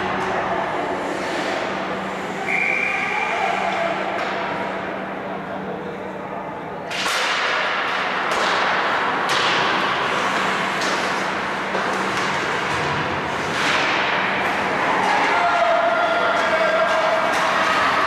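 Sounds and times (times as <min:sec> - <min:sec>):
low arena hum: 0:00.0 - 0:18.0.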